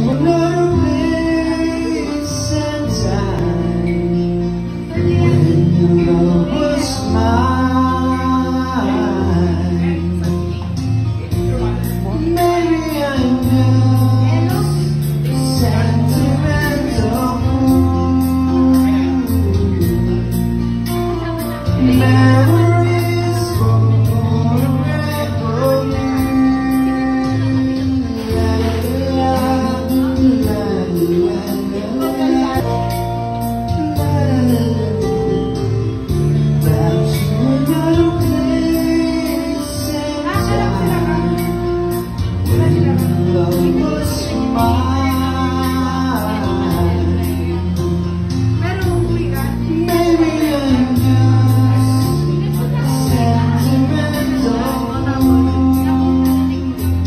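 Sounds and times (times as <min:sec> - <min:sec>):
instrumental accompaniment: 0:00.0 - 0:57.0
man singing into a microphone: 0:00.0 - 0:57.0.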